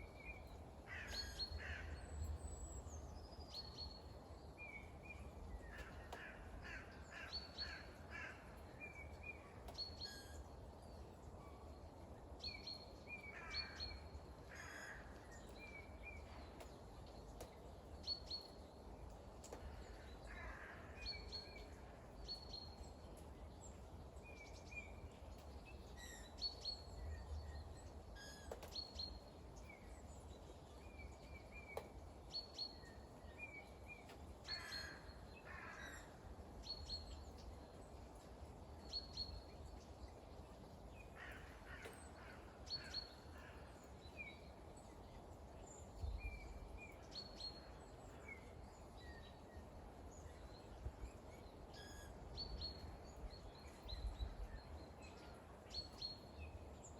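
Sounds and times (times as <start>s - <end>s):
light rain hiss: 0.0s - 56.9s.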